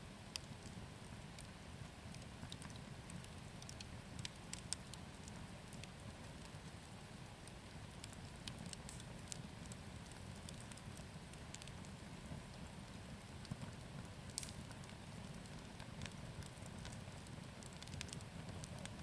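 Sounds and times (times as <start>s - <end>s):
fire crackling and popping: 0.1s - 19.0s
bonfire flames rushing: 0.6s - 19.0s.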